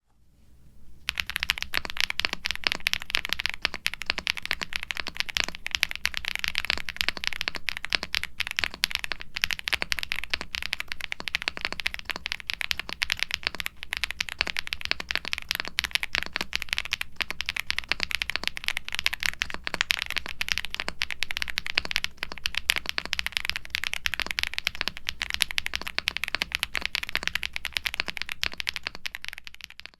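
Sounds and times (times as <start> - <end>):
fast mechanical keyboard typing: 1.1 - 29.9.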